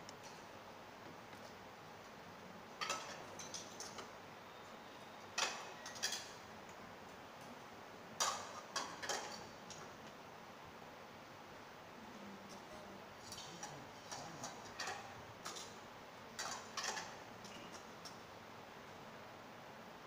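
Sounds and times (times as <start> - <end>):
low room hiss: 0.0 - 20.0.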